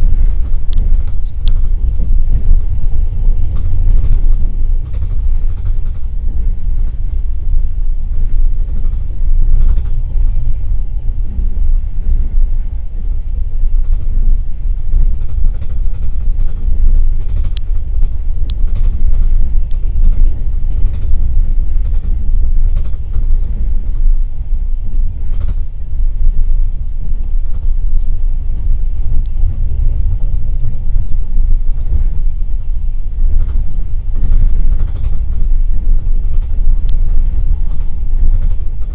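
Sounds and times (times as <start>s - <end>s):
faint ticks: 0.0s - 11.7s, 12.3s - 24.2s, 25.2s - 38.9s
train wheels rumbling on track: 0.0s - 38.9s.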